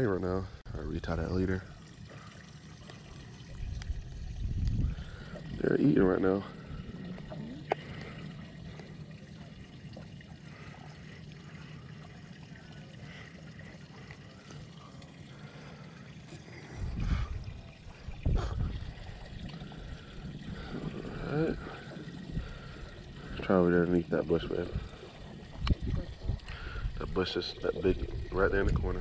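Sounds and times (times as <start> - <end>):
low hum: 0.0 - 29.0
water trickling and lapping: 0.0 - 29.0.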